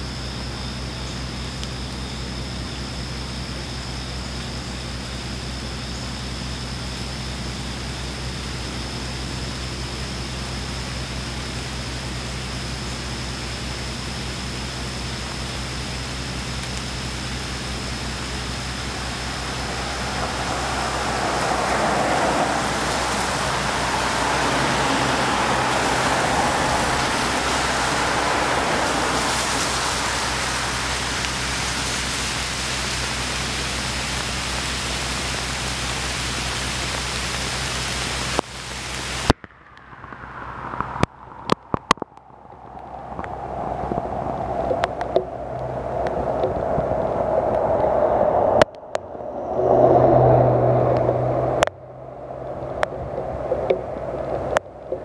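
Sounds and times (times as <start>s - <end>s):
heavy rain hiss: 0.0s - 39.3s, 40.0s - 55.0s
car engine hum: 0.0s - 55.0s
car tyres swishing on wet road: 0.0s - 55.0s.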